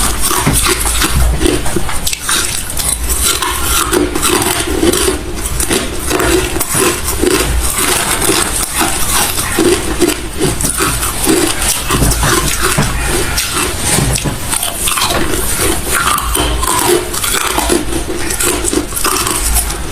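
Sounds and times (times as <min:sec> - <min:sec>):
person chewing crushed ice: 0:00.0 - 0:19.9.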